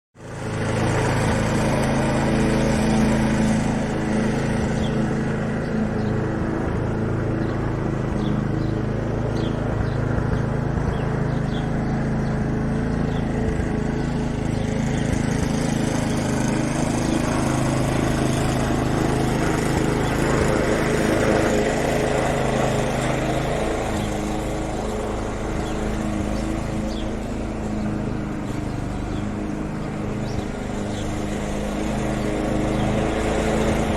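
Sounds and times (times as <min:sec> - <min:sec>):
lawn mower engine running: 0:00.2 - 0:33.9.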